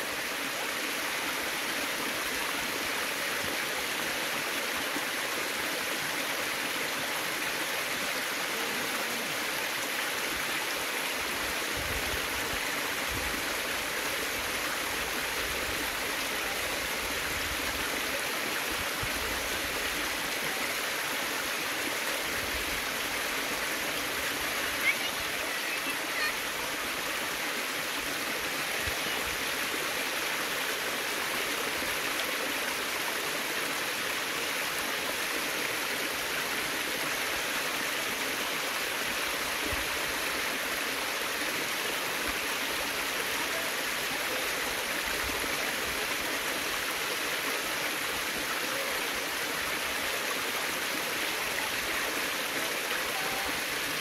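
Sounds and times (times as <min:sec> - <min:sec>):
water running over rocks: 0:00.0 - 0:54.0.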